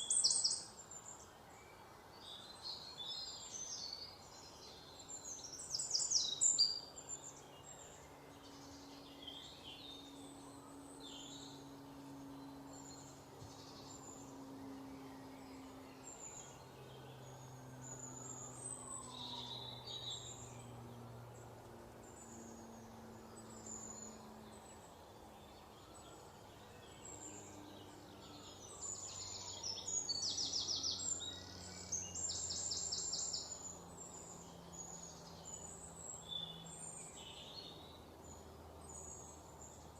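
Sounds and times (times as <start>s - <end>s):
birds chirping: 0.0s - 39.9s
faint low drone: 0.0s - 39.9s.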